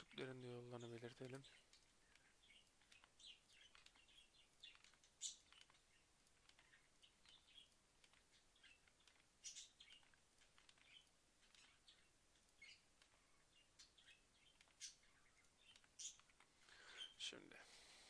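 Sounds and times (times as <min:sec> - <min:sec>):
faint high-pitched chirps: 0:00.0 - 0:17.4.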